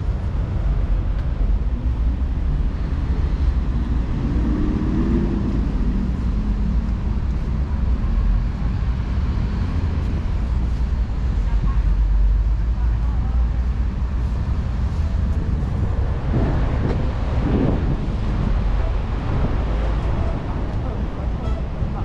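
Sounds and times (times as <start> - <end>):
passing vehicle engine hum: 0.0 - 22.0
traffic rumble: 0.0 - 22.0.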